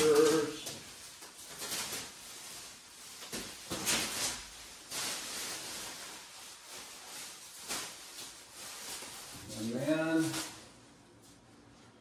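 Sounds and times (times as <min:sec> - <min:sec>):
plastic drop cloth rustling: 0:00.0 - 0:10.8.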